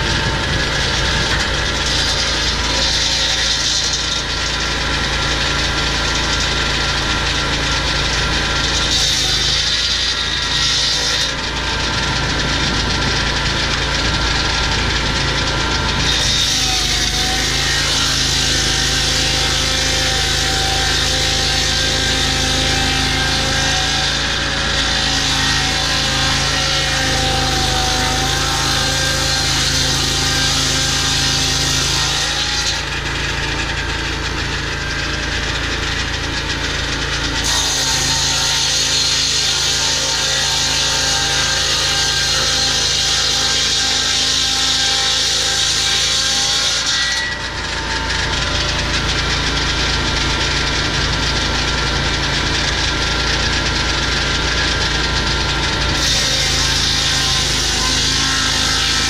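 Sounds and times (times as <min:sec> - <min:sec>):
circular blade cutting log: 0:00.0 - 0:59.0
sawmill engine droning: 0:00.0 - 0:59.0.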